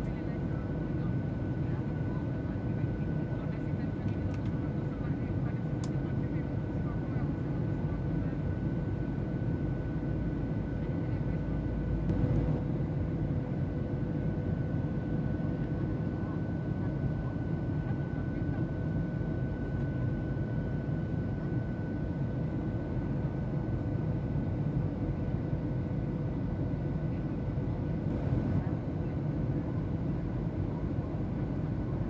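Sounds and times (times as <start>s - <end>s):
airplane engines droning: 0.0s - 32.0s.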